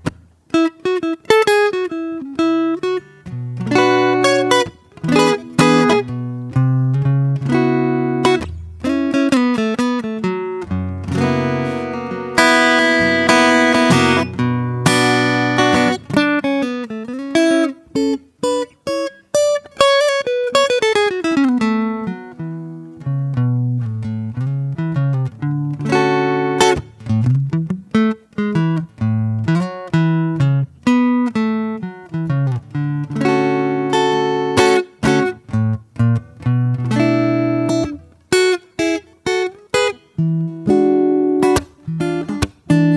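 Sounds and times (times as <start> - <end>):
acoustic guitar solo: 0.0 - 42.9.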